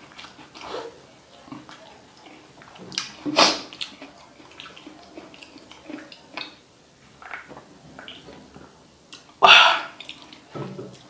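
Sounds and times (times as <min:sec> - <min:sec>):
chewing and wet mouth noises: 0:00.0 - 0:11.0.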